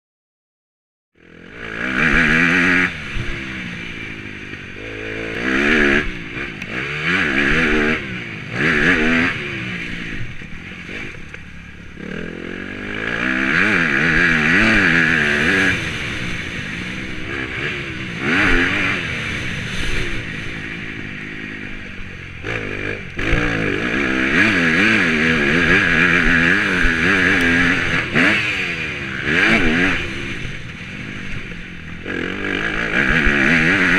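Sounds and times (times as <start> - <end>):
motocross bike engine revving: 1.2 - 33.9.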